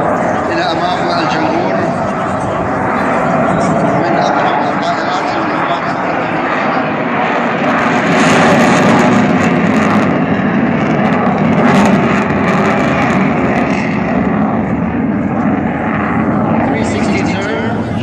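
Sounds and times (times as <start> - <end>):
jet fighter roaring overhead: 0.0 - 18.0.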